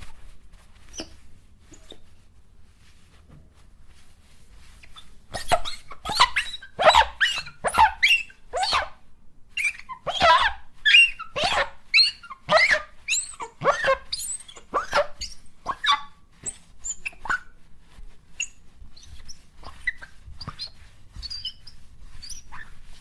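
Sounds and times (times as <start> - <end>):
paper towel squeaking on mirror: 0.0 - 23.0.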